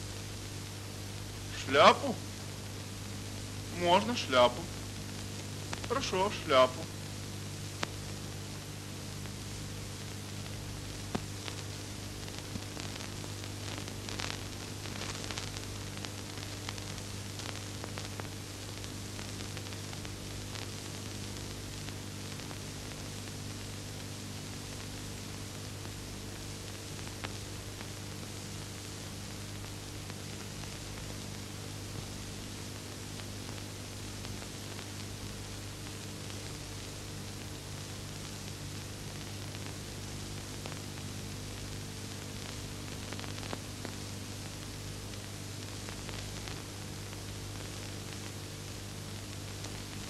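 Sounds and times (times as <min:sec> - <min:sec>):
film soundtrack hiss: 0:00.0 - 0:50.0
faint clicks and crackles: 0:03.8 - 0:06.9, 0:07.6 - 0:08.2, 0:09.2 - 0:50.0.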